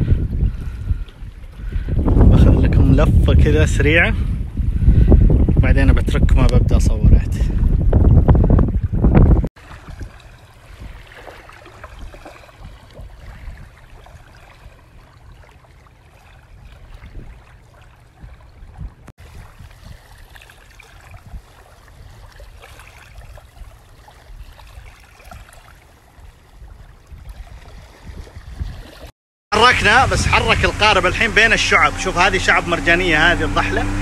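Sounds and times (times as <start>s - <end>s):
boat engine rumble: 0.0s - 28.7s, 29.5s - 34.0s
water washing against hull: 0.0s - 34.0s.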